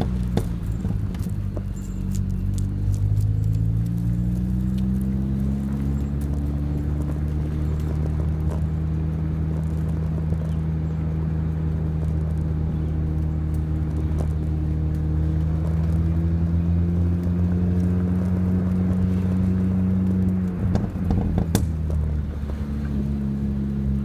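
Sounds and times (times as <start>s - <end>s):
car exhaust drone: 0.0s - 24.0s.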